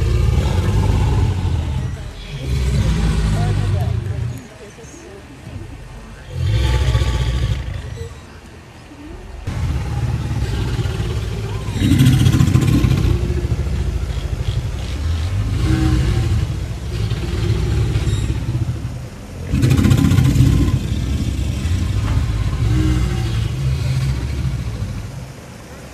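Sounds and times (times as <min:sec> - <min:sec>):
alligators bellowing: 0:00.0 - 0:04.8, 0:05.5 - 0:08.4, 0:09.0 - 0:25.9.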